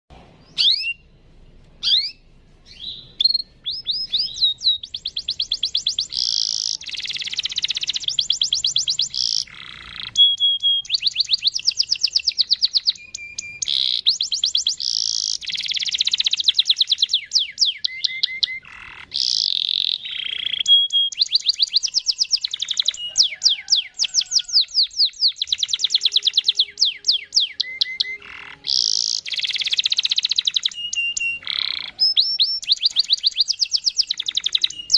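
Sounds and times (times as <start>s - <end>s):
canary singing trills: 0.4s - 34.9s.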